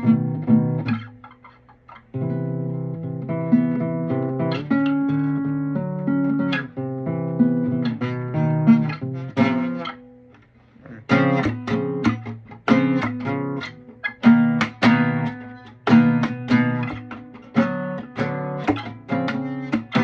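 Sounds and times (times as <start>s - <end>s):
fingerstyle classical guitar: 0.0s - 20.0s
strummed guitar chords: 0.0s - 20.0s.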